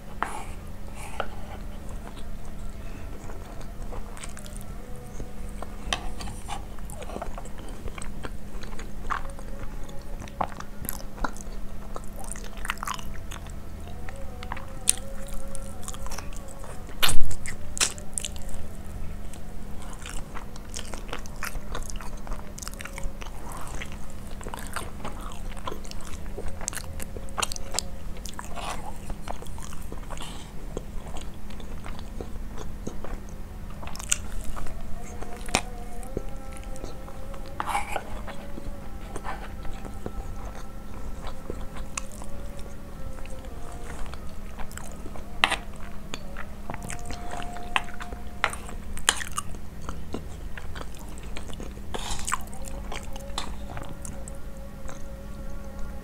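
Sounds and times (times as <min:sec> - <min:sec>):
close chewing and biting: 0:00.0 - 0:56.0
steady low hum: 0:00.0 - 0:56.0.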